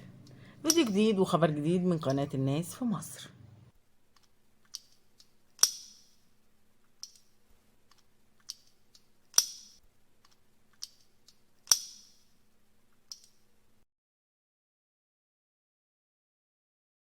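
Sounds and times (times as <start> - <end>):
faint low hum: 0.0 - 13.8.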